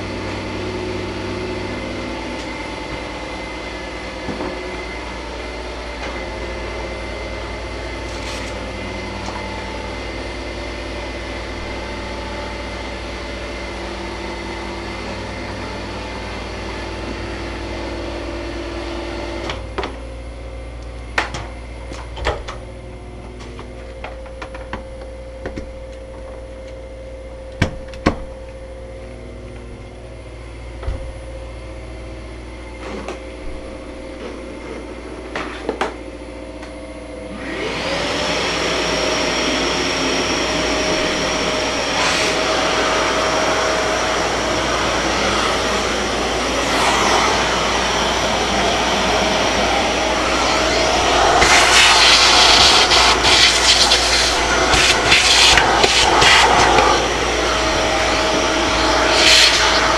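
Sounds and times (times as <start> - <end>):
refrigeration machinery humming: 0.0 - 59.9.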